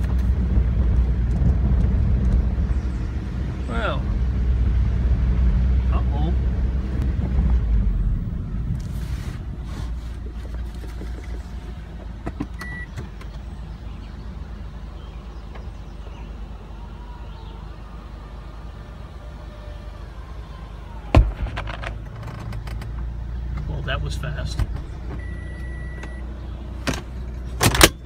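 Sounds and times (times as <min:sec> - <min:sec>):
car rumbling to a stop: 0:00.0 - 0:28.0.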